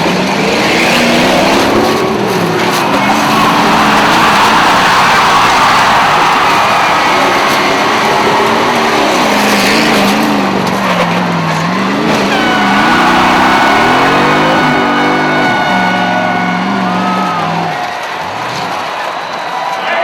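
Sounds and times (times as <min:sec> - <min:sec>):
engines revving: 0:00.0 - 0:19.4
high tire squeal: 0:00.0 - 0:20.0
loud noise: 0:00.0 - 0:20.0.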